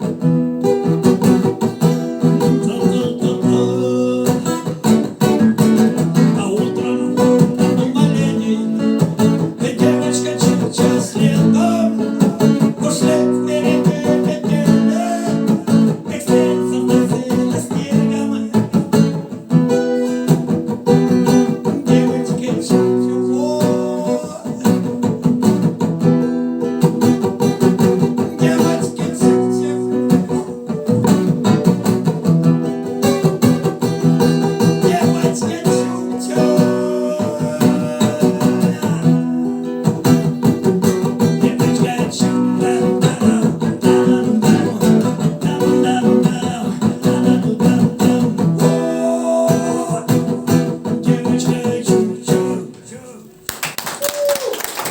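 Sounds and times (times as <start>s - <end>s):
acoustic guitar strumming: 0.0s - 53.4s.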